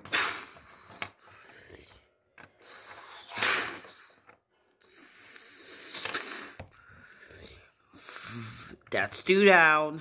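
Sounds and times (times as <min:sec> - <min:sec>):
person hissing and puffing: 0:00.0 - 0:08.8.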